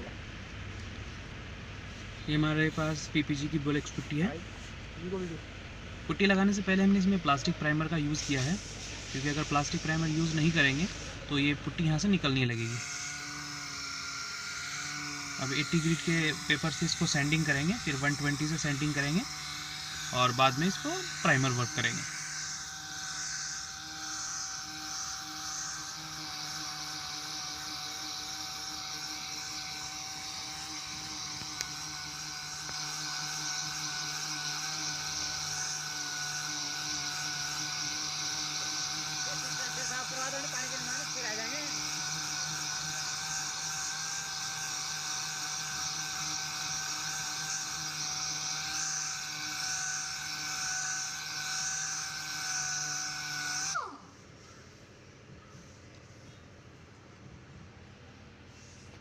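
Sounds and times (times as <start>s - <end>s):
electric power tool whining: 0.0s - 55.0s.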